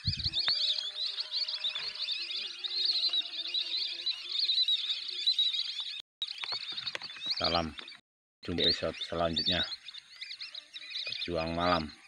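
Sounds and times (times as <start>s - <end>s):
chorus of high chirping calls: 0.0s - 12.0s.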